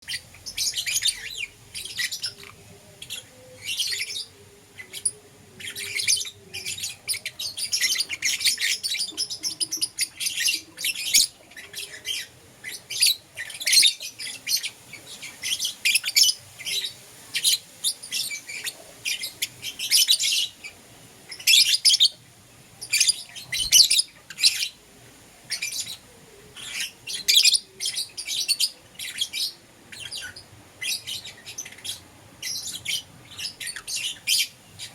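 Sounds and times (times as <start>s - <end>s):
lovebirds chirping: 0.0s - 34.9s.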